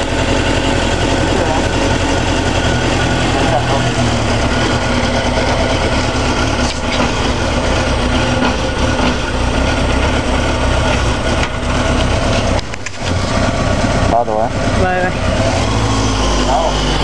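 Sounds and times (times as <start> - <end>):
motorcycle engine idling: 0.0 - 15.4.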